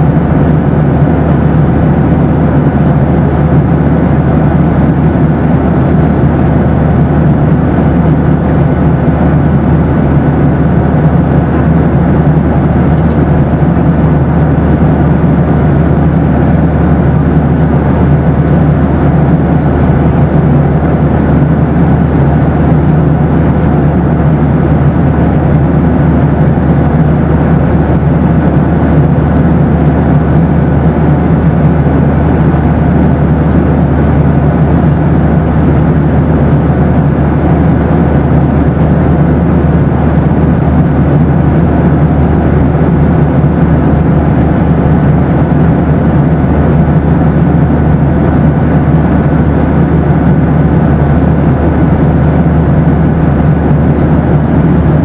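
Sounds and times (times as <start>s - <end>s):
faint steady hums: 0.0s - 55.0s
jet engine and airflow drone: 0.0s - 55.0s.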